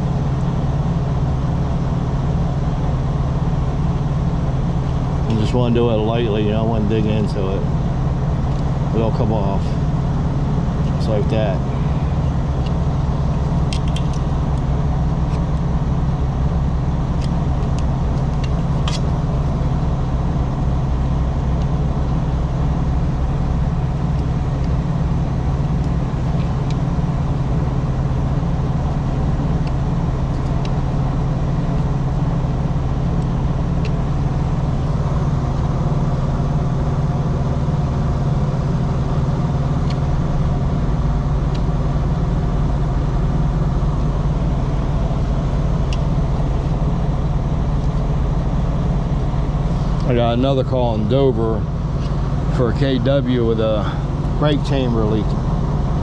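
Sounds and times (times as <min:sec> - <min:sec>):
engine idling hum: 0:00.0 - 0:56.0.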